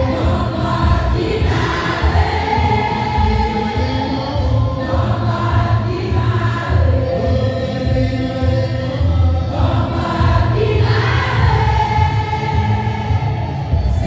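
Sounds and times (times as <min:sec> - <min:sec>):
choir singing a hymn: 0:00.0 - 0:14.0
low accompaniment: 0:00.0 - 0:14.0.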